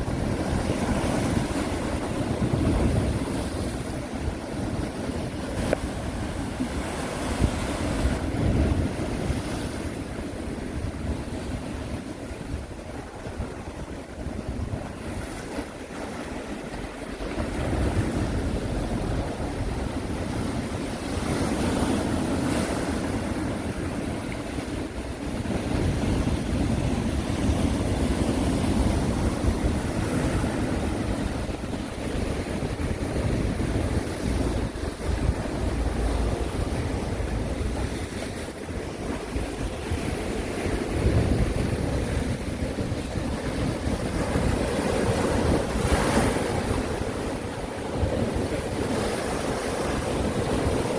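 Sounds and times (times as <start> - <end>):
sea waves washing on shore: 0.0 - 50.9
wind rumbling on microphone: 0.0 - 50.9.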